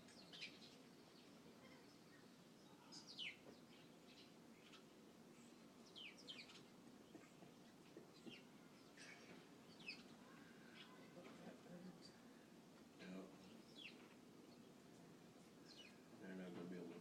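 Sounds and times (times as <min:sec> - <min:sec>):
low background noise: 0:00.0 - 0:17.0
small birds chirping: 0:00.0 - 0:17.0.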